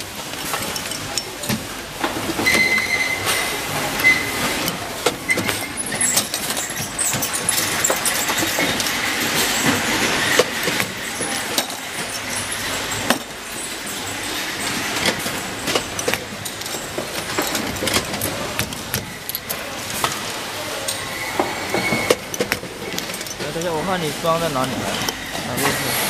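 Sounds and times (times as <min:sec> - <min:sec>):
workshop din: 0:00.0 - 0:26.0.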